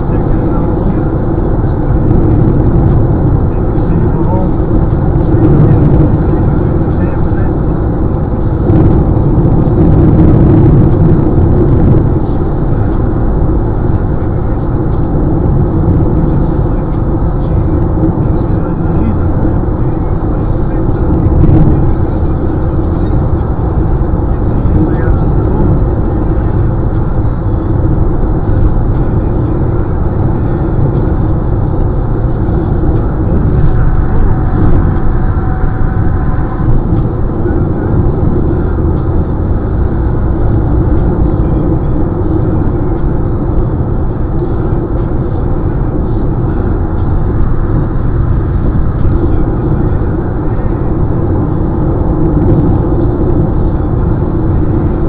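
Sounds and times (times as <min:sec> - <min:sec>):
car engine hum: 0:00.0 - 0:55.0
road and tyre noise: 0:00.0 - 0:55.0.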